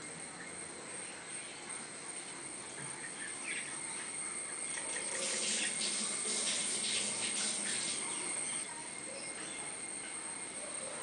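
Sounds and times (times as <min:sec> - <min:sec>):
high-pitched insect drone: 0:00.0 - 0:11.0
birds chattering: 0:00.3 - 0:11.0.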